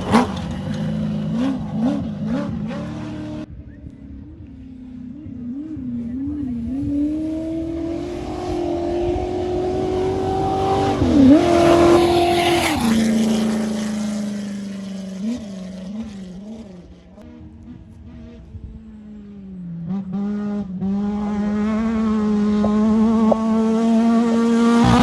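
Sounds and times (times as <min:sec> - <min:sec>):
race vehicle engine passing by: 0:00.0 - 0:03.5, 0:04.7 - 0:25.0
engine throttle blips: 0:00.0 - 0:25.0.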